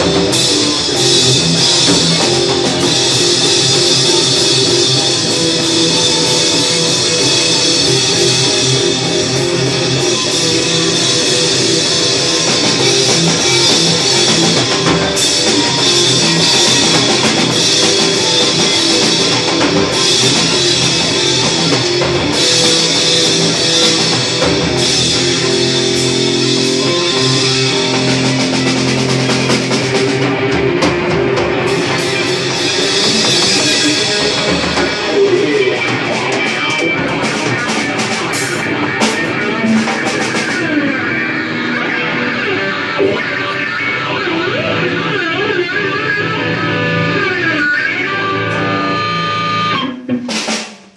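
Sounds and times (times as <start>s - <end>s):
live punk rock band: 0.0s - 50.9s.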